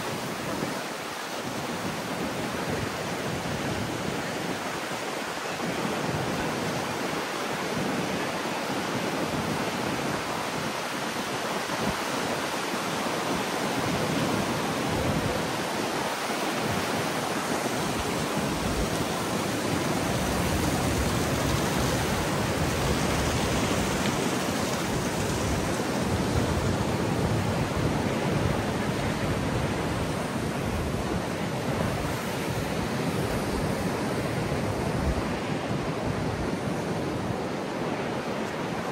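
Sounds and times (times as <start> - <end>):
heavy surf breaking: 0.0 - 38.9
strong wind: 0.0 - 38.9.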